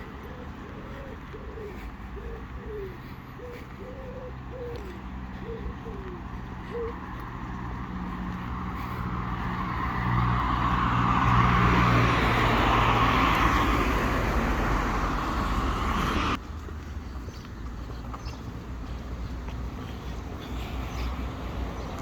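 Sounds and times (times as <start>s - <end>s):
vehicle engine hum and tyre noise: 0.0s - 22.0s.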